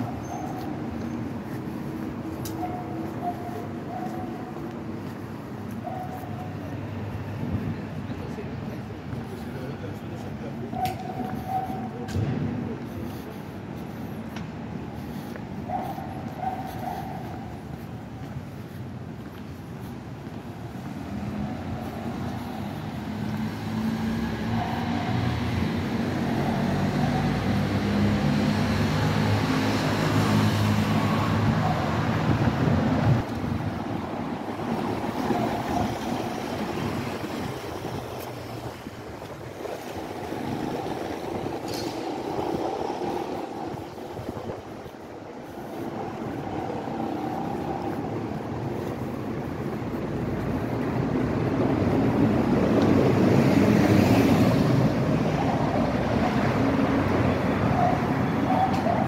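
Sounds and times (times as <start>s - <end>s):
passing traffic: 0.0s - 59.0s.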